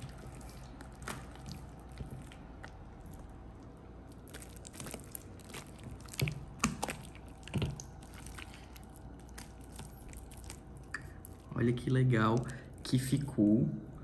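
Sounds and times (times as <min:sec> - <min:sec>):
slime squelching: 0:00.0 - 0:13.4.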